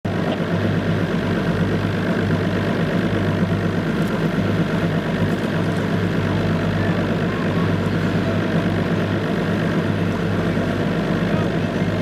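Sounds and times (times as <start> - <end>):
motorboat engine droning: 0.1 - 12.0.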